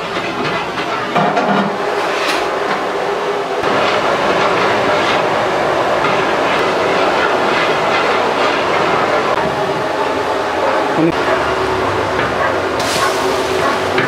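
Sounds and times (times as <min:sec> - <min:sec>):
busy kitchen rushing noise: 0:00.0 - 0:14.0.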